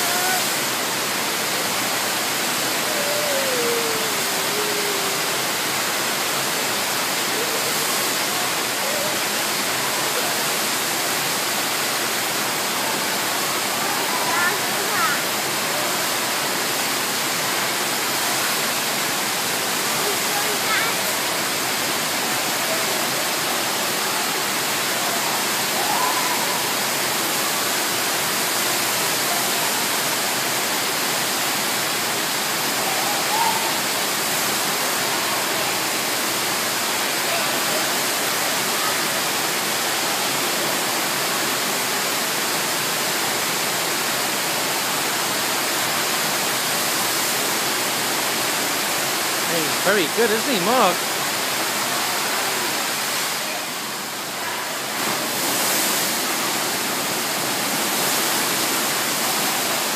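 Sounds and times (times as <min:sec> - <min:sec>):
rushing water from wave machine: 0:00.0 - 0:59.9.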